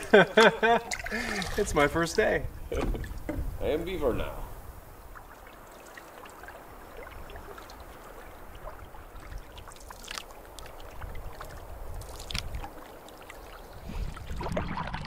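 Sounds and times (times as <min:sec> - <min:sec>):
paddle strokes and splashes: 0:00.0 - 0:03.5, 0:04.7 - 0:15.0
water lapping against hull: 0:00.0 - 0:15.0.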